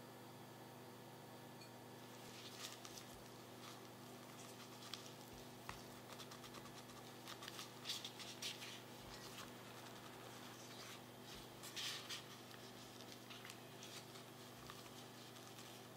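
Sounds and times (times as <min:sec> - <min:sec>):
plastic glove rustling: 0:02.0 - 0:15.9
soft dough squishes: 0:02.0 - 0:15.9.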